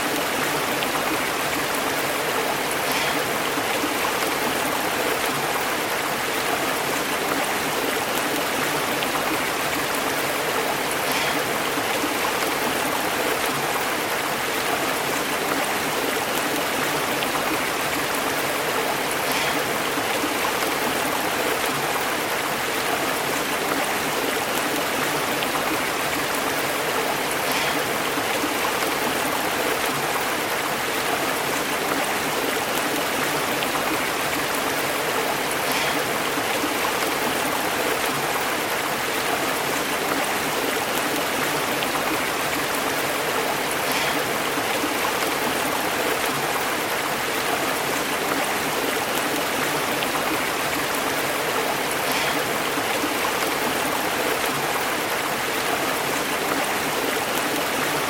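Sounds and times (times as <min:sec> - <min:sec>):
stream bubbling over rocks: 0:00.0 - 0:58.0.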